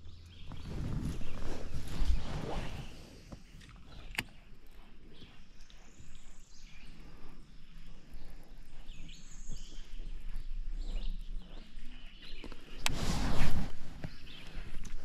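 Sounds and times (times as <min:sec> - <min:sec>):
faint bird chirps: 0:00.0 - 0:13.1, 0:13.8 - 0:15.0
steady low rumble: 0:00.0 - 0:15.0.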